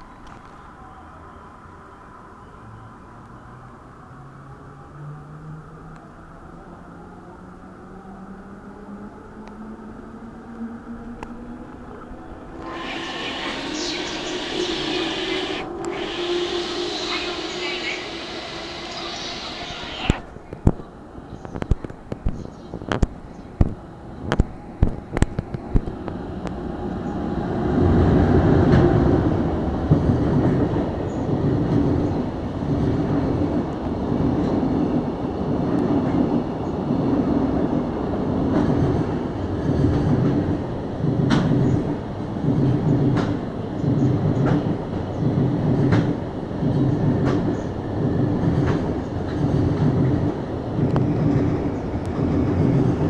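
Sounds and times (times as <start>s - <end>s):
train passing clickety-clack: 9.0s - 53.0s.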